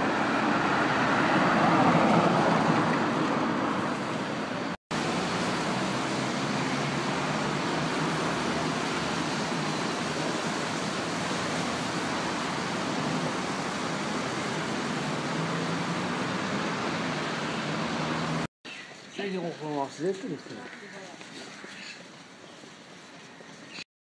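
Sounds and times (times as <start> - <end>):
city road traffic hum: 0.0 - 23.9.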